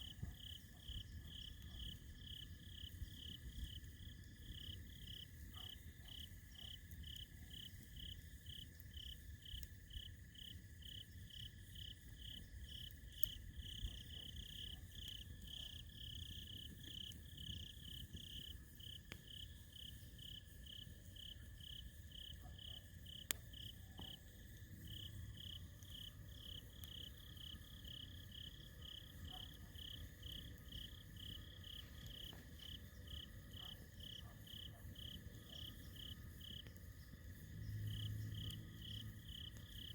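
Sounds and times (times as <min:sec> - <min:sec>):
campfire popping: 0:00.0 - 0:39.9
cricket chirping: 0:00.0 - 0:39.9.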